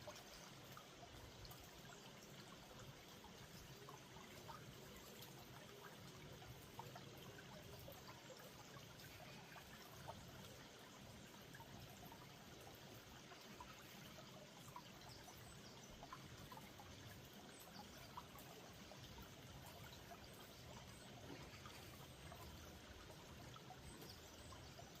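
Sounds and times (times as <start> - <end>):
small stream trickling: 0.0 - 25.0.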